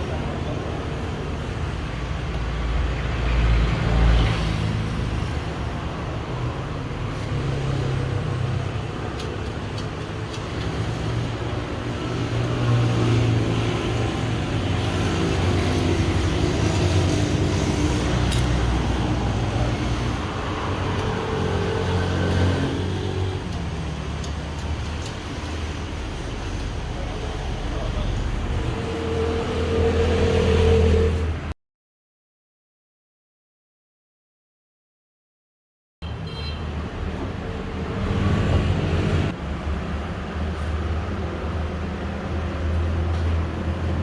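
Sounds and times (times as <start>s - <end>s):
road traffic noise: 0.0s - 31.6s, 36.0s - 44.0s.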